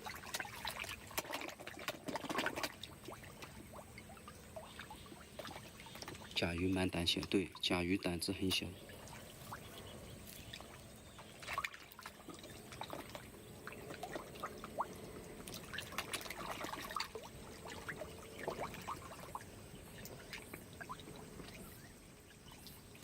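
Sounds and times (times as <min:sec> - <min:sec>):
water plops and drips: 0:00.0 - 0:07.8, 0:08.9 - 0:23.0
pond water splashing: 0:00.0 - 0:23.0.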